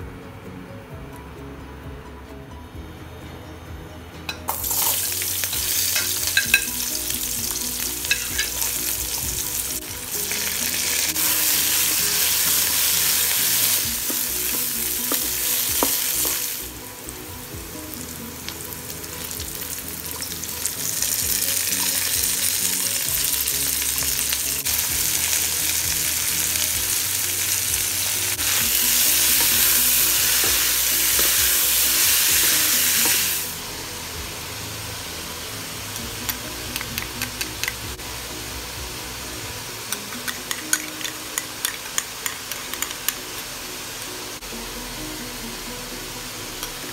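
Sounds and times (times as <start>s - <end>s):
vegetables stir-frying: 4.5s - 44.5s
oil sizzling in a wok: 4.5s - 46.9s.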